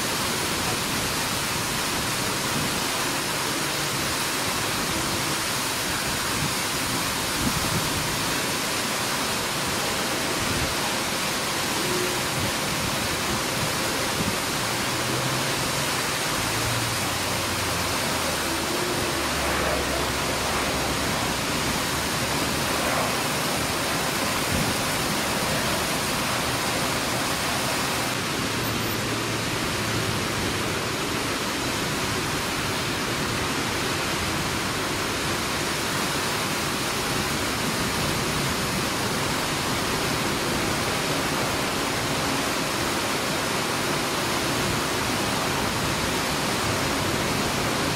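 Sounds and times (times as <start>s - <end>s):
heavy rain hiss: 0.0s - 47.9s.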